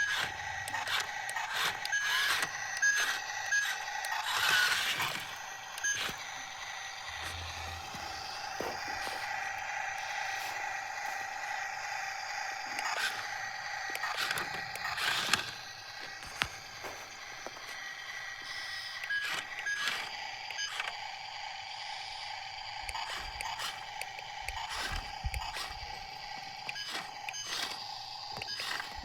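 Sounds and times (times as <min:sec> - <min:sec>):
toy clicks and scrapes: 0:00.0 - 0:29.0
toy electric motors whining: 0:00.0 - 0:29.0.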